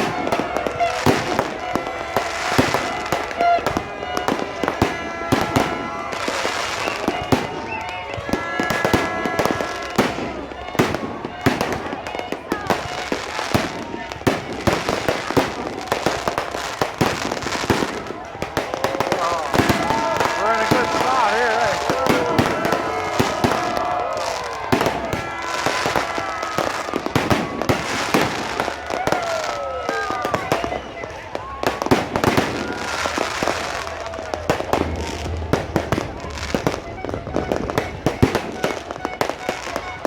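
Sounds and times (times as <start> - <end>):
fireworks bangs and pops: 0.0 - 40.0
fireworks crackling: 0.0 - 40.0.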